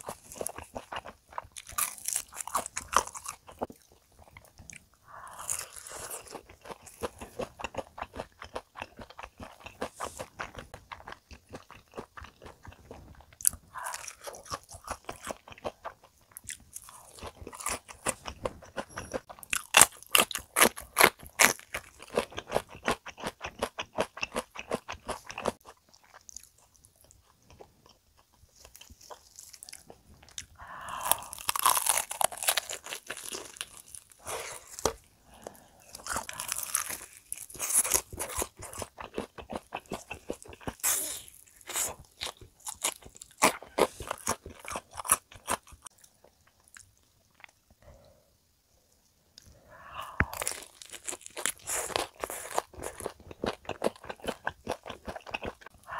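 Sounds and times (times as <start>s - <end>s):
crunching and chewing fried food: 0.0s - 48.2s, 49.4s - 55.9s.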